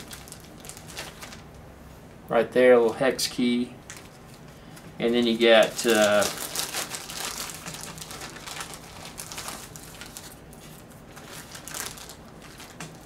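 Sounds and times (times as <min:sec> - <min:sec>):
plastic packaging crinkling: 0:00.0 - 0:01.6, 0:03.8 - 0:13.0.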